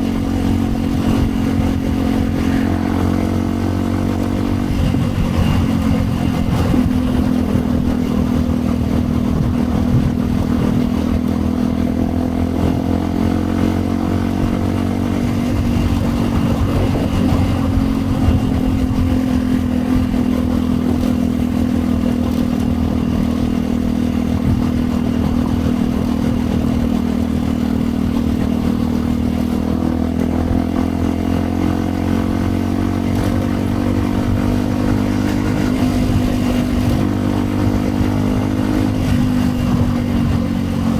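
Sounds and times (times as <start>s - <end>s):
motorcycle engine riding along: 0.0s - 40.9s.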